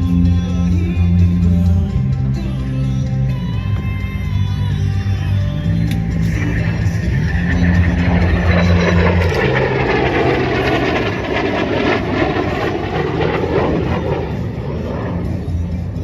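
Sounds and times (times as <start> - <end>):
aircraft engine noise: 0.0 - 16.0.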